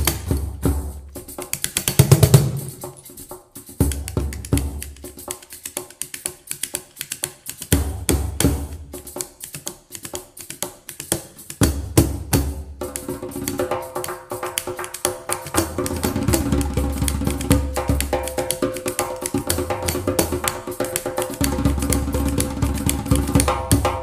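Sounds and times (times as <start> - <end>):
hand drums playing fast rhythm: 0.0 - 24.0.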